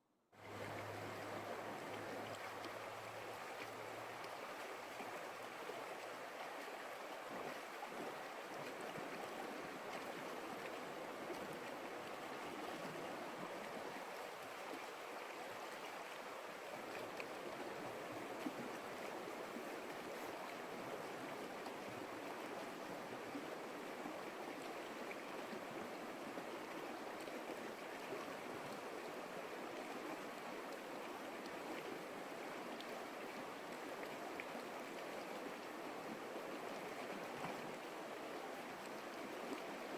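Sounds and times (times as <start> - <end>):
stream water flowing: 0.4 - 39.9.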